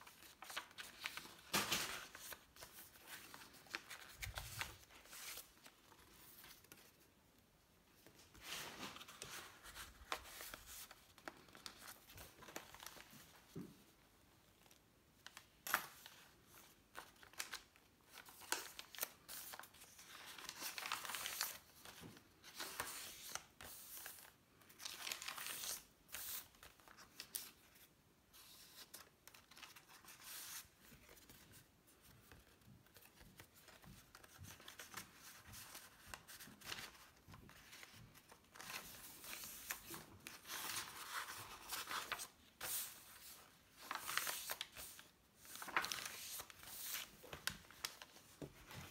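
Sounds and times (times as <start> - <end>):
paper pages rustling: 0.0 - 7.2, 8.0 - 13.9, 14.6 - 48.9.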